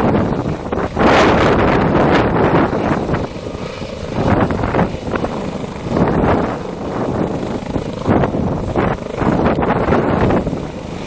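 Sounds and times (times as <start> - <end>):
helicopter hovering: 0.0 - 11.0.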